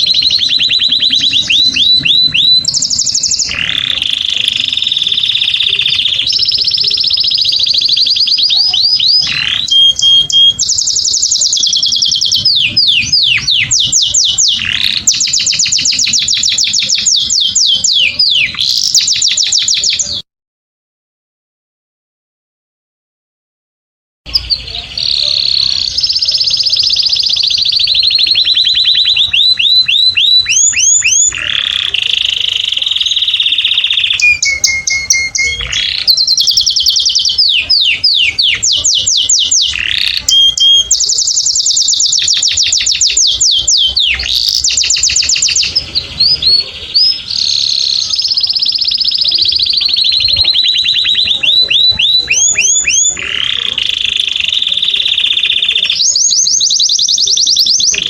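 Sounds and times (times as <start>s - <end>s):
canary singing: 0.0s - 20.3s, 24.3s - 58.0s.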